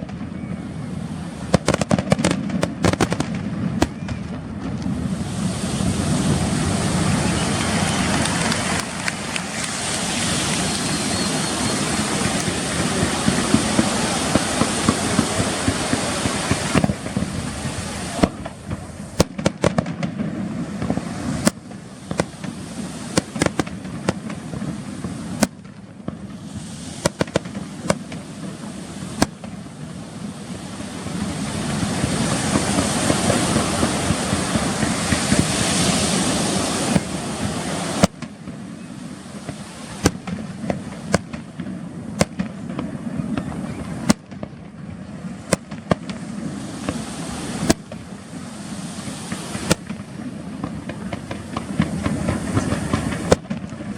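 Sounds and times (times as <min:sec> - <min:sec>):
firework crackling hiss: 0:00.0 - 0:53.9
firework shells bursting: 0:01.5 - 0:29.7, 0:31.2 - 0:44.7, 0:45.4 - 0:53.9.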